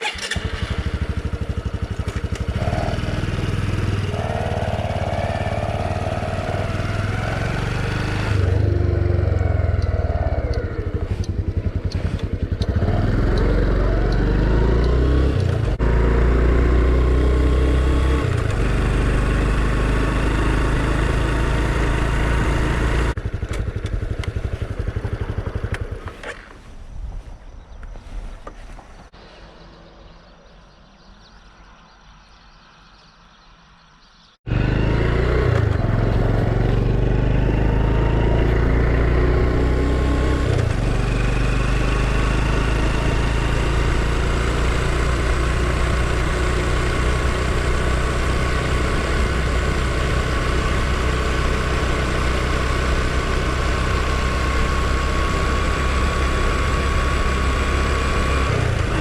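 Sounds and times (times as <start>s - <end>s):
motorcycle engine running: 0.0s - 26.6s, 34.5s - 59.0s
road and wind noise: 0.0s - 59.0s.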